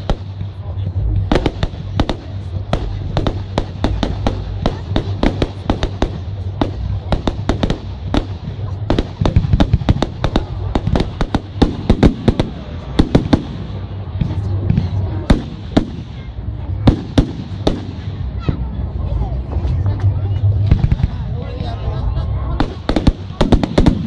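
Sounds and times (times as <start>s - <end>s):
fireworks bursting with bangs: 0.0s - 19.7s, 20.4s - 21.4s, 22.5s - 24.0s
low rumble: 0.0s - 22.9s.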